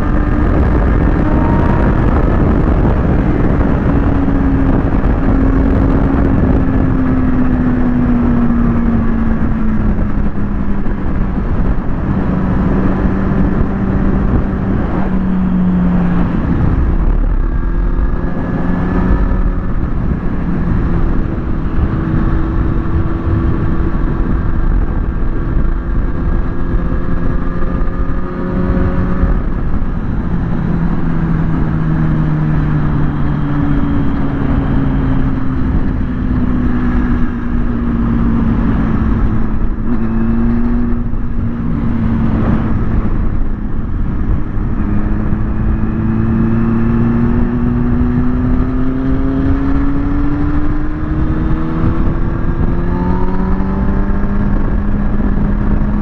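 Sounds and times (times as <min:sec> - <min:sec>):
motorcycle engine: 0:00.0 - 0:56.0
wind rushing: 0:00.0 - 0:56.0.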